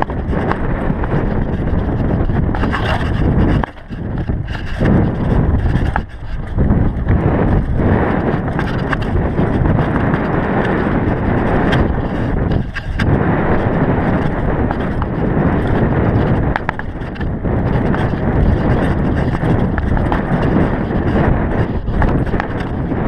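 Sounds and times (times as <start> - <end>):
sharp clicks and knocks: 0.0 - 7.7, 8.4 - 13.2, 14.2 - 22.9
bike rattling: 0.0 - 23.0
bike tyre noise: 0.0 - 23.0
wind rushing over microphone: 0.0 - 23.0.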